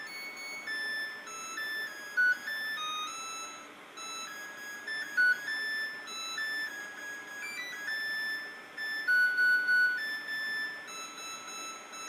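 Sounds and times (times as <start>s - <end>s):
dishwasher beeping melody: 0.0s - 12.0s.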